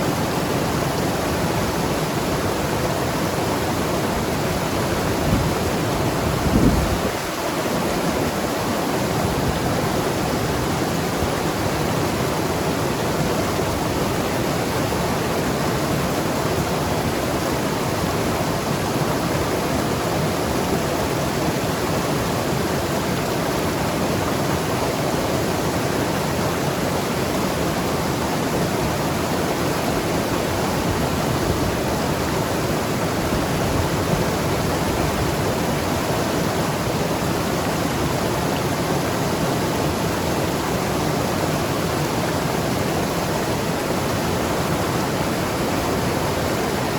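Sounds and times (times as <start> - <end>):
river rushing over rocks: 0.0 - 46.9.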